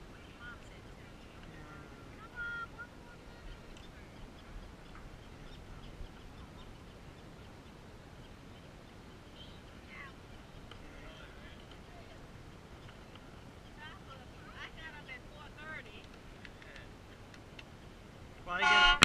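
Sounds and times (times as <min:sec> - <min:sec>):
low wind: 0:00.0 - 0:19.0.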